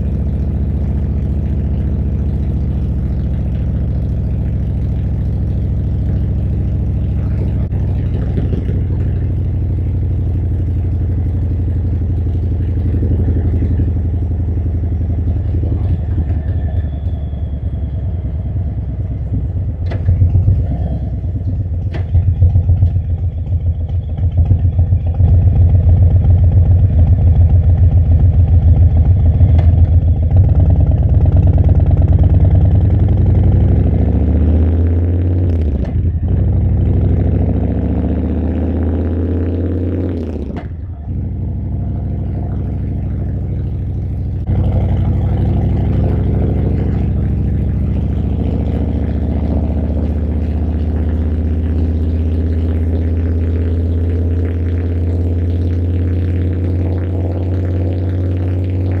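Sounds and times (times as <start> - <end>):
motorcycle engine shifting gears: 0.0 - 59.0.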